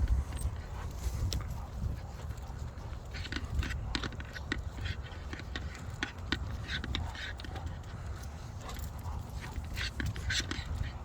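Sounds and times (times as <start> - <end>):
footsteps and scuffs: 0.0 - 11.0
steady low rumble: 0.0 - 11.0.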